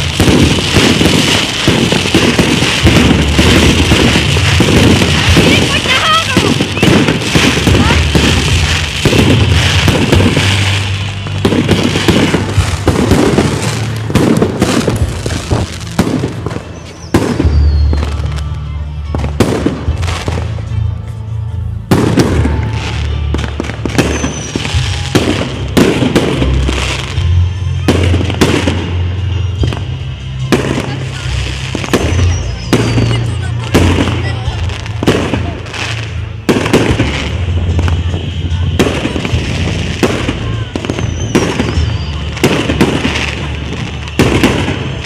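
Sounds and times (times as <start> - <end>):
fireworks bursting: 0.0 - 45.0
music playing: 0.0 - 45.0.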